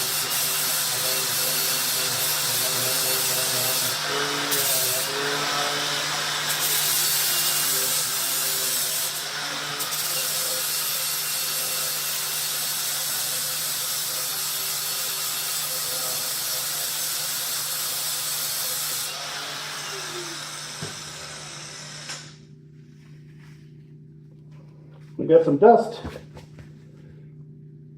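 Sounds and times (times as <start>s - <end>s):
angle grinder grinding metal: 0.0s - 22.4s.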